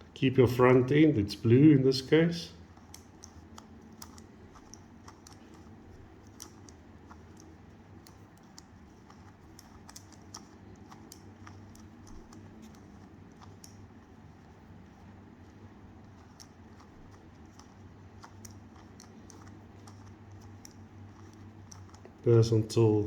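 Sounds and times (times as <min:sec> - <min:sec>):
puzzle cube plastic clicking: 0:02.7 - 0:14.5, 0:15.4 - 0:22.2.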